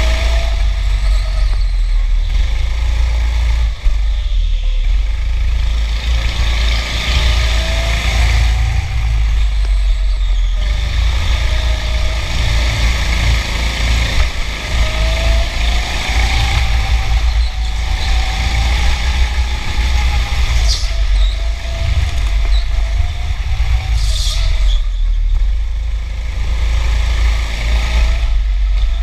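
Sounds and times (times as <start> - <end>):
go-kart engine rumble: 0.0 - 29.0.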